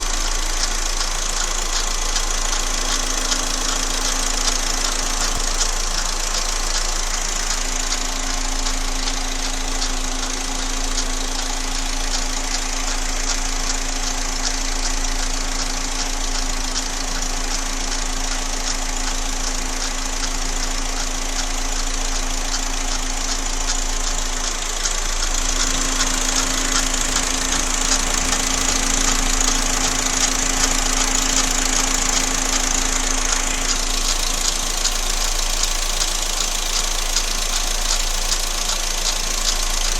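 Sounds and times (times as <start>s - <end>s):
engine knocking: 0.0s - 39.9s
engine running: 0.0s - 39.9s.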